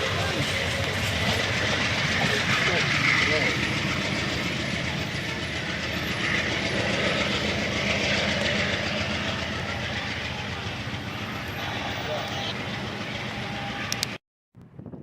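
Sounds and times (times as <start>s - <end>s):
train wheels clattering on rails: 0.0s - 14.2s.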